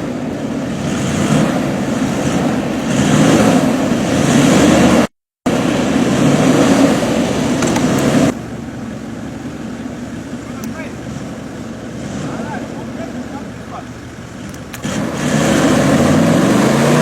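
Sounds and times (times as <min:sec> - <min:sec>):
car engine running off-road: 0:00.0 - 0:17.0
steady rushing noise: 0:00.0 - 0:17.0.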